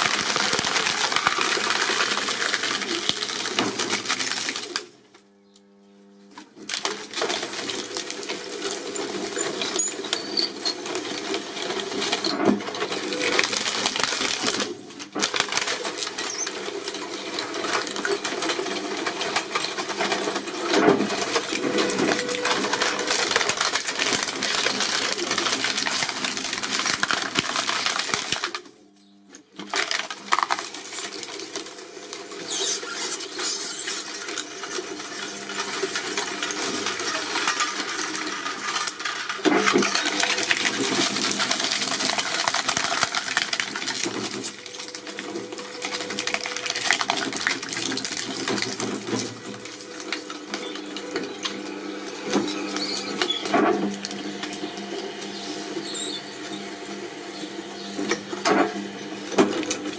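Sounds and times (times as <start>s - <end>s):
shredding machine crunching: 0.0s - 5.4s, 6.2s - 59.9s.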